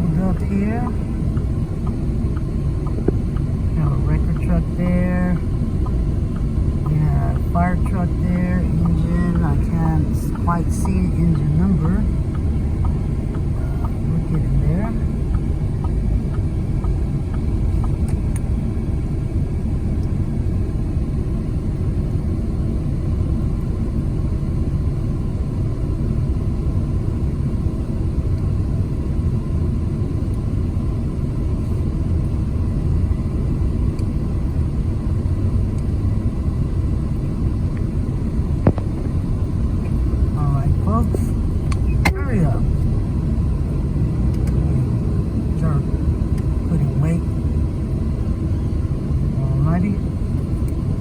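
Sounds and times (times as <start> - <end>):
road noise: 0.0 - 51.0
vehicle engine rumble: 0.0 - 51.0.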